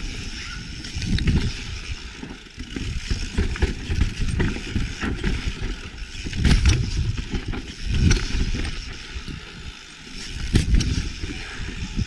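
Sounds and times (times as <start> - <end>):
bike knocking and rattling: 0.0 - 12.0
bike tyres rolling over rock: 0.0 - 12.0.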